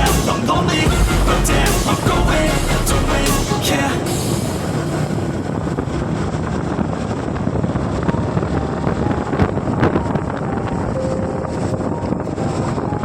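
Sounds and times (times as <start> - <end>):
background music: 0.0 - 5.7, 8.2 - 13.0
vehicle road noise: 0.0 - 13.0
wind noise on microphone: 0.0 - 13.0.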